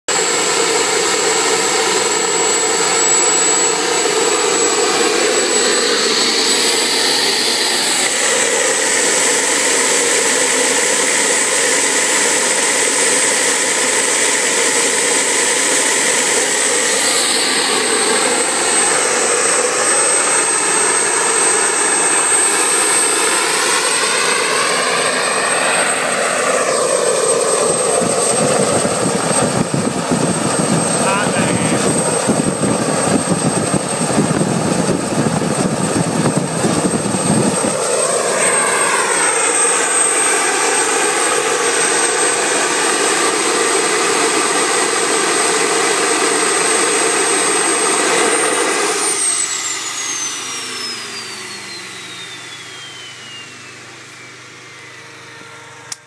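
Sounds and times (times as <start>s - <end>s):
high-pitched turbine whine: 0.1s - 56.0s
jet engine roar: 0.1s - 56.0s.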